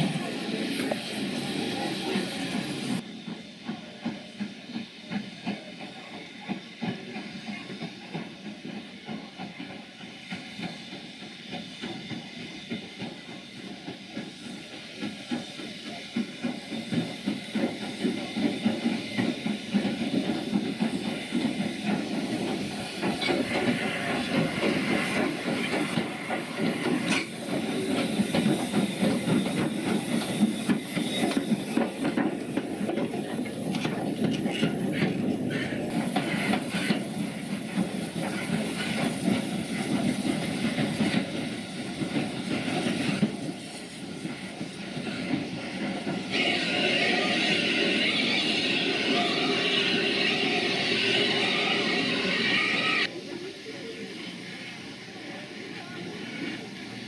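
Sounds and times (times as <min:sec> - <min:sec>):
steam hissing: 0:00.0 - 0:57.0
steam locomotive moving: 0:00.0 - 0:57.0.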